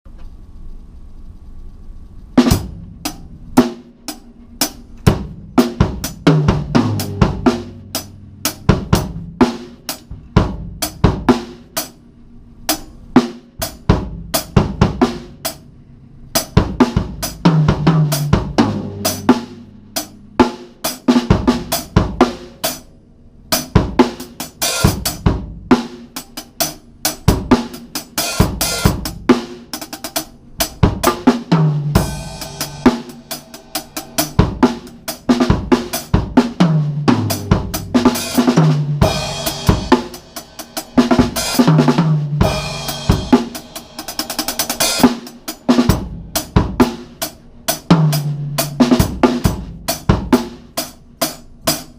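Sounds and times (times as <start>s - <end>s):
drum kit beat: 2.3s - 51.9s.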